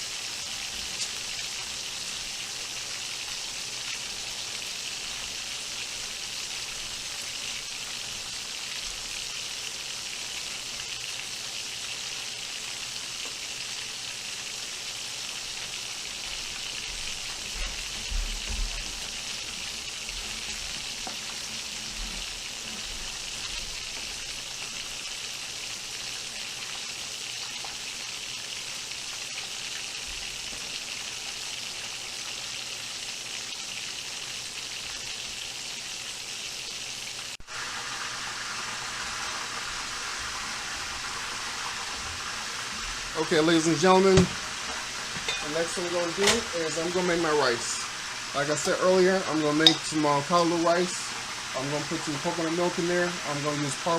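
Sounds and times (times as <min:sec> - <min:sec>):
chicken sizzling in hot oil: 0:00.0 - 0:53.9.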